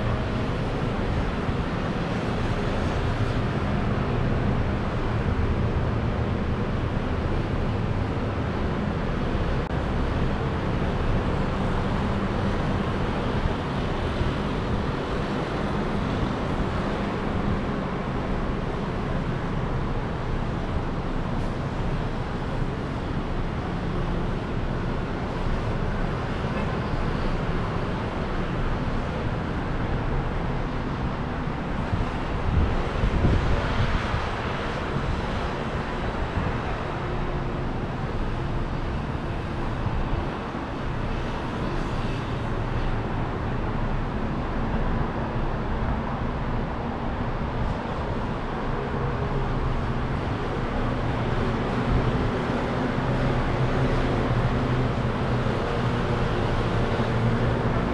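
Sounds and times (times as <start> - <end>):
street traffic rumble: 0.0 - 57.9.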